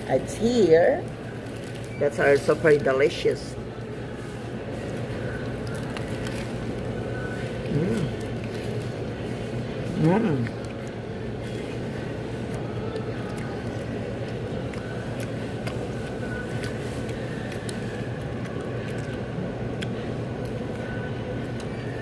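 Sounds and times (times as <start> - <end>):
constant hum: 0.0 - 22.0.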